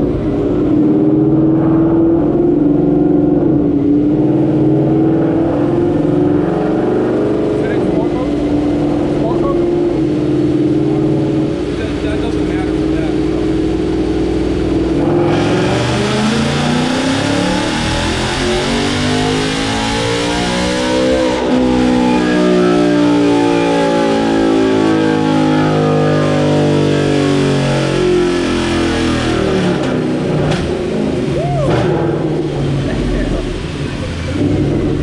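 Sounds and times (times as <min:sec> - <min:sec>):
car engine revving on a dyno: 0:00.0 - 0:35.0.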